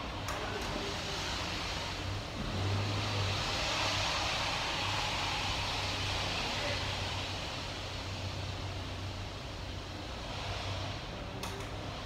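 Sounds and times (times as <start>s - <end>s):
rushing air-like noise: 0.9s - 11.1s.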